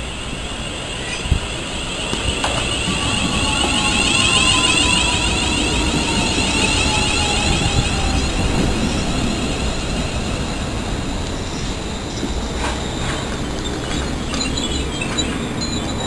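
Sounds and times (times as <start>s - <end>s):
falling train whine: 0.0s - 16.0s
high shimmering whine: 0.0s - 16.0s
train passing: 0.0s - 16.0s.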